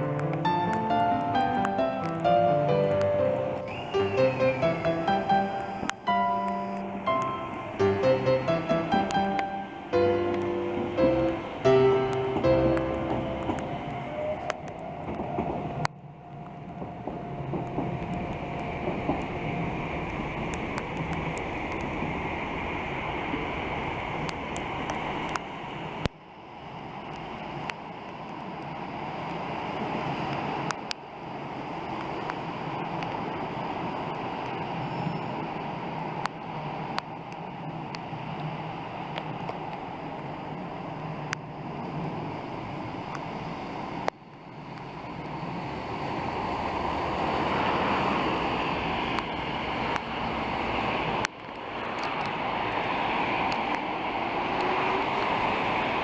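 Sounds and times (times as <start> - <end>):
rail clicks: 0.0 - 26.2, 27.0 - 56.0
trains rumbling past: 0.0 - 56.0.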